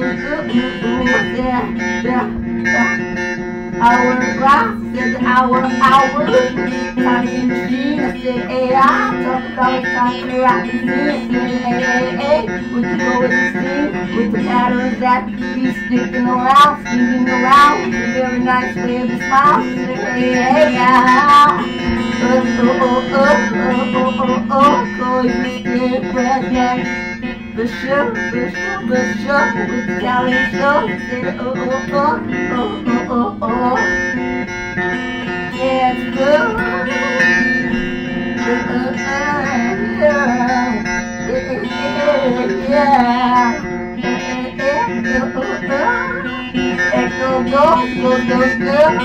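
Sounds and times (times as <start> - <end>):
electric guitar through amp: 0.0 - 49.0.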